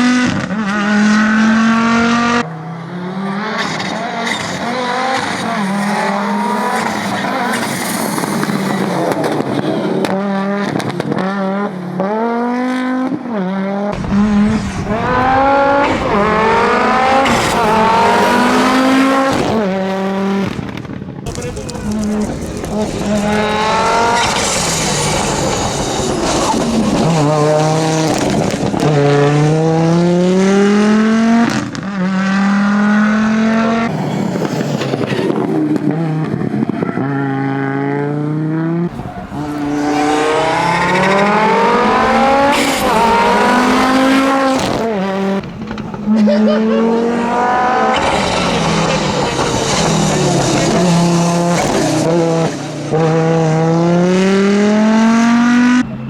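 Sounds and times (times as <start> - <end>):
rally car engine shifting gears: 0.0 - 56.0.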